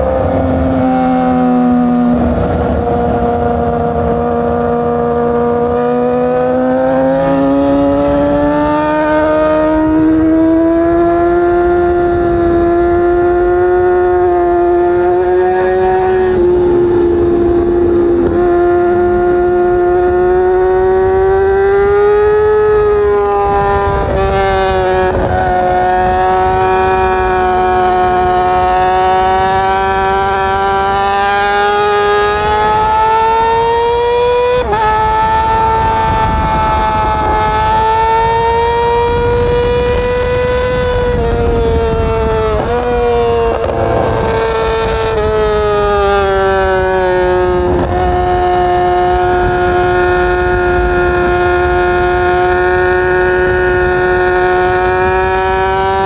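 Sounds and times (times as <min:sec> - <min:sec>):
motorcycle engine at high revs: 0:00.0 - 0:56.0
wind rush: 0:00.0 - 0:56.0.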